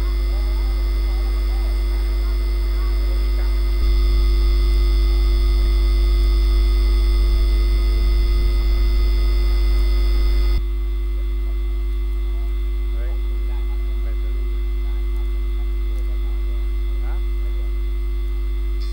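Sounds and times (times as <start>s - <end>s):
electrical hum: 0.0s - 18.9s.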